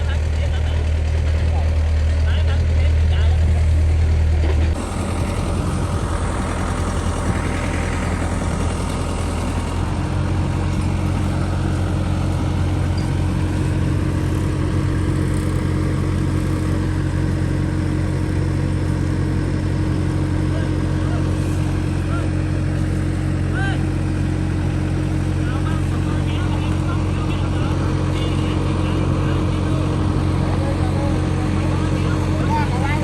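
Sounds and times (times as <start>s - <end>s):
mini excavator engine running: 0.0s - 33.0s.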